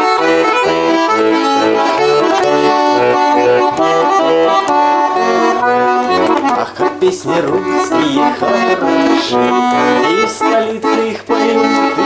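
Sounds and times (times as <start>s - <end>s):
button accordion playing: 0.0s - 12.0s.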